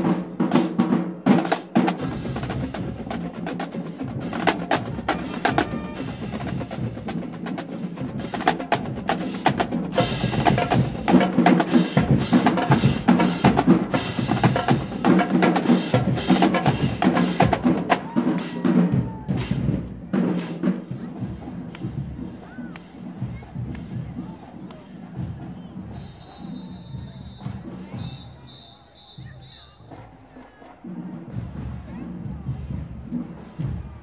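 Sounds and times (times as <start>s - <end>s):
marching drumline: 0.0s - 34.0s.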